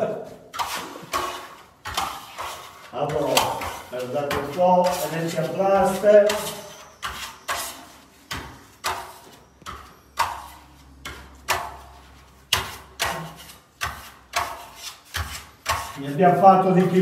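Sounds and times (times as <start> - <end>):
trowel scraping plaster: 0.3 - 17.0.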